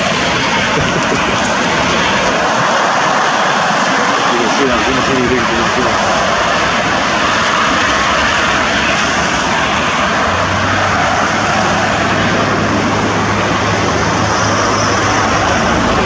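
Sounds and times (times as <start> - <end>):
freeway traffic: 0.0 - 16.0
low engine hum: 0.0 - 16.0.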